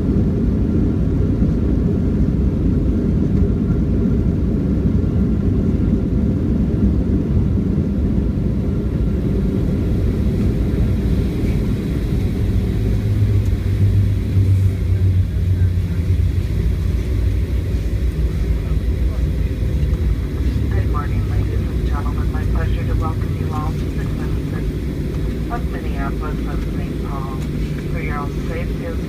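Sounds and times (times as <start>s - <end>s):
airplane cabin rumble: 0.0s - 29.0s
deep hum: 0.0s - 29.0s.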